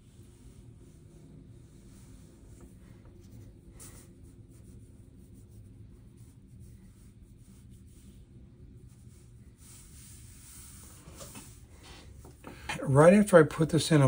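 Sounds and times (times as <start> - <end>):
brush strokes on paper: 0.0 - 12.4
low steady hum: 0.0 - 14.0.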